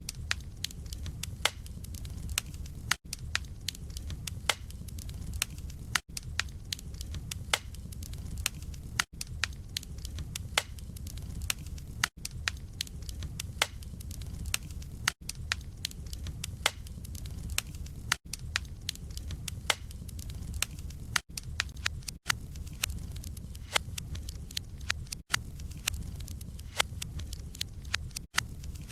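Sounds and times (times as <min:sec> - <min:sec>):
low rumble of flames: 0:00.0 - 0:28.9
wood fire crackling and popping: 0:00.0 - 0:28.9.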